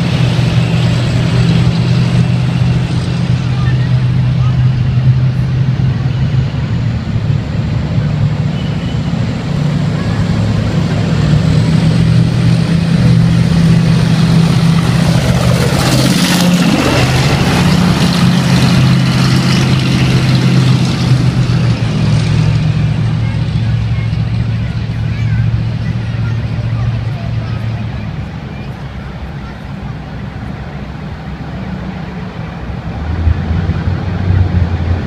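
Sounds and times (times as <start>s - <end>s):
tank diesel engines droning: 0.0s - 35.0s.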